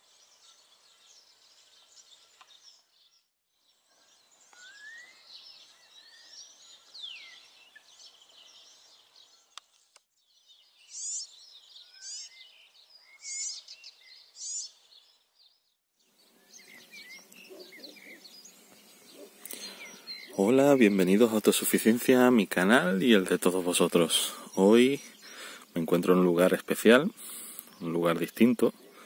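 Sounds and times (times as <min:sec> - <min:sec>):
wild birds singing and chirping: 0:00.0 - 0:29.0.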